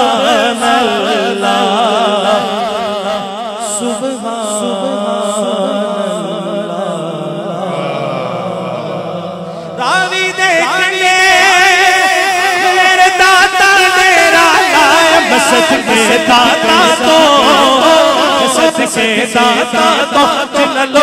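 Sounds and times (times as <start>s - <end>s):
man singing through microphone: 0.0s - 21.0s.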